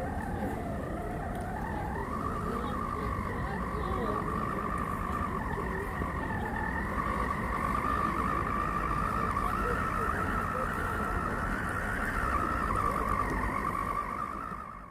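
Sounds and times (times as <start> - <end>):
low rumble: 0.0 - 14.9
toy truck motor whining: 0.0 - 14.9.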